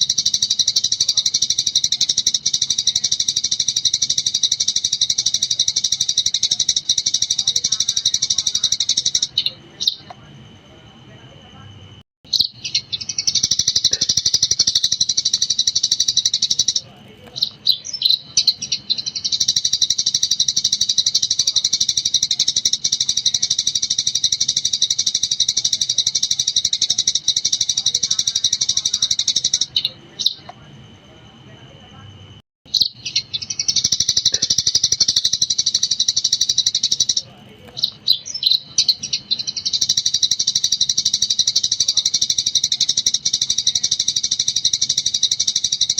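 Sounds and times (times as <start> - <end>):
sparrow chattering: 0.0 - 10.3, 12.3 - 30.7, 32.7 - 45.9.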